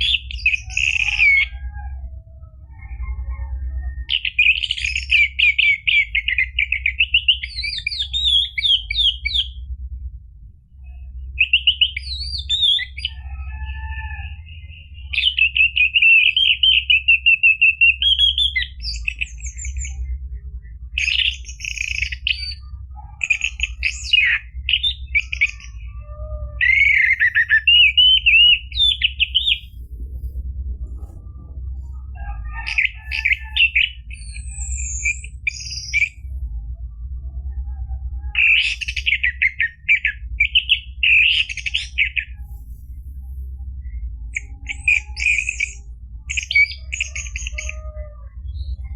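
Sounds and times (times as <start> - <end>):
thrush singing trills: 0.0 - 9.7, 10.8 - 48.9
steady low hum: 0.0 - 48.9.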